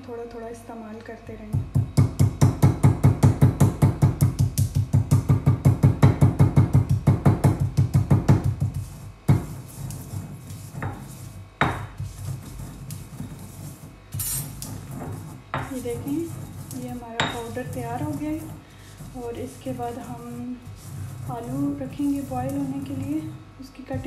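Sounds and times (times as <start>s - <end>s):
pestle pounding in stone mortar: 1.6s - 23.4s.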